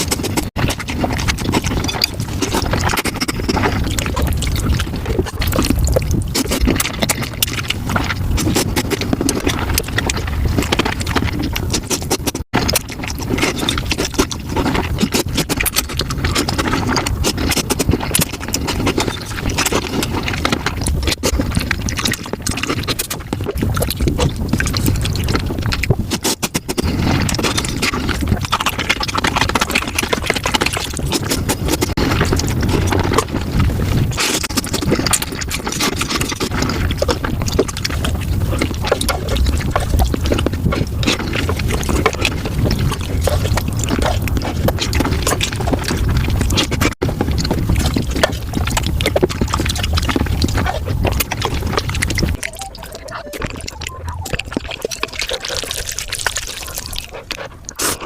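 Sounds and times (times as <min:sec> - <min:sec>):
mouth clicking: 0:00.0 - 0:58.0
quick chewing: 0:00.0 - 0:58.0
slurping: 0:00.0 - 0:58.0.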